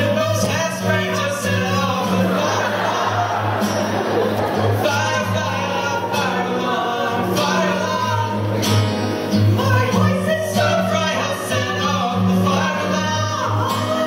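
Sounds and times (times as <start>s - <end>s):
voices singing: 0.0s - 14.0s.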